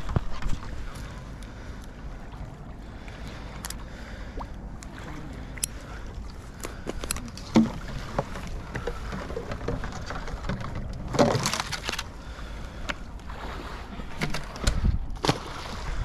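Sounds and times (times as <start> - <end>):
sloshing water: 0.0 - 16.0
water splashing: 0.0 - 16.0.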